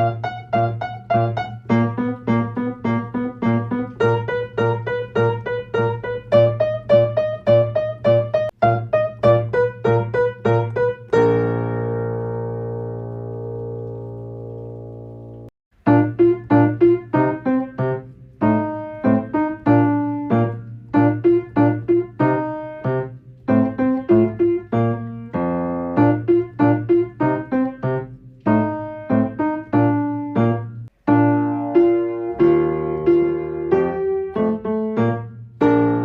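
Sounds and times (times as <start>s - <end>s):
piano playing bouncy tune: 0.0s - 36.0s.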